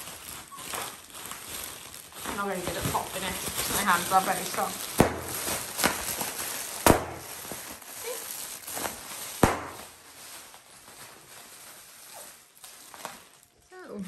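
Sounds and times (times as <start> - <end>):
bubble wrap popping: 0.0 - 14.0.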